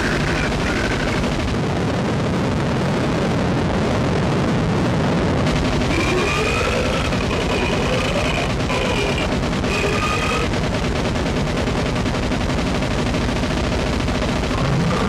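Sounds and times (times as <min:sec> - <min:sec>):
wall of distorted noise: 0:00.0 - 0:15.0.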